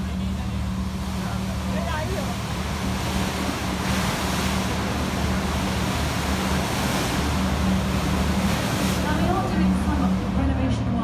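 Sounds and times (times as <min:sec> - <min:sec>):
boat engine droning: 0:00.0 - 0:11.0
rushing water: 0:00.0 - 0:11.0
rushing wind: 0:00.7 - 0:11.0.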